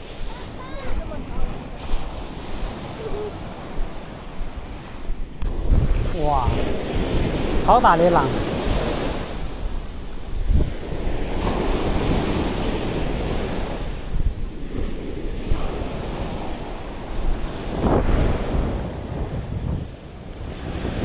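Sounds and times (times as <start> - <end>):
big waves breaking on shore: 0.0 - 21.0
wind buffeting microphone: 0.0 - 21.0.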